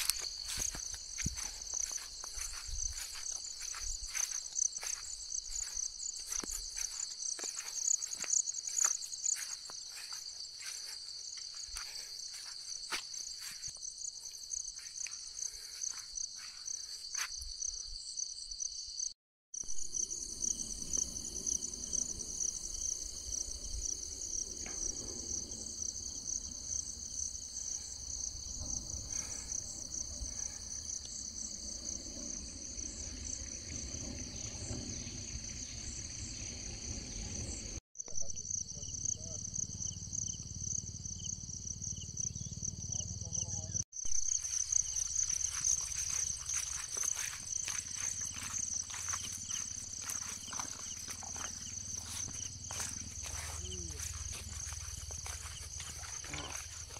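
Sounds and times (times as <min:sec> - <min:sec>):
high-pitched insect chorus: 0:00.0 - 0:56.9.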